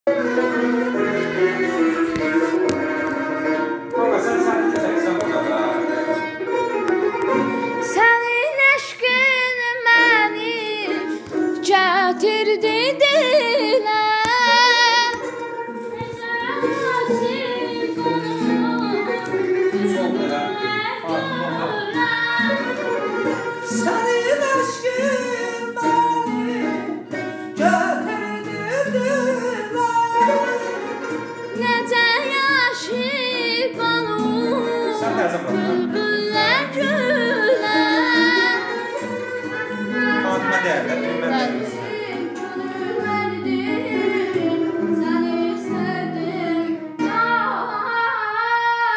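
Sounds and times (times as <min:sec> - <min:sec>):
instrumental accompaniment: 0:00.0 - 0:48.9.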